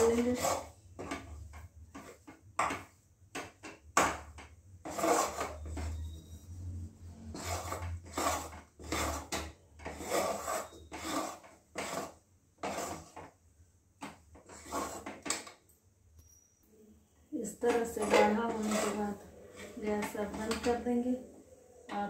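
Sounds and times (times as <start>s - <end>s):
spatula scraping a pan: 0.0s - 2.9s, 4.2s - 13.4s, 14.0s - 15.5s, 17.7s - 22.0s.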